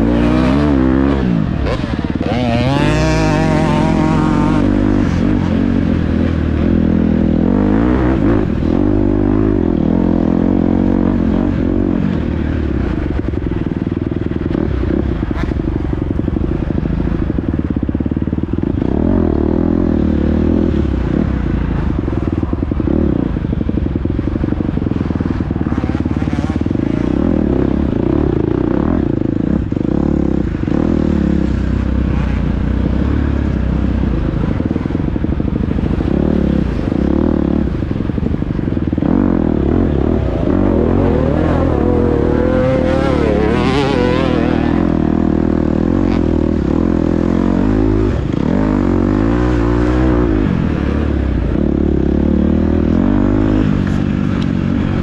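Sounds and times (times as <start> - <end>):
dirt bike engine revving: 0.0 - 13.4, 14.3 - 55.0.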